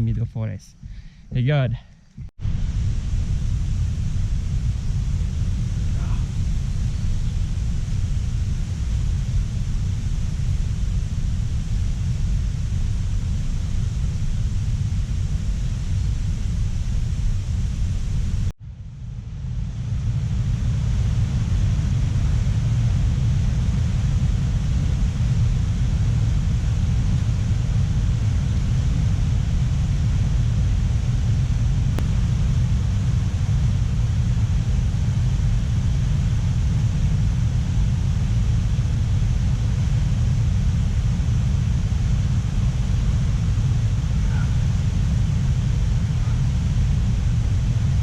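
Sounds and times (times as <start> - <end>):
faint hiss: 0.0 - 18.5, 19.2 - 48.0
low rumble: 0.0 - 48.0.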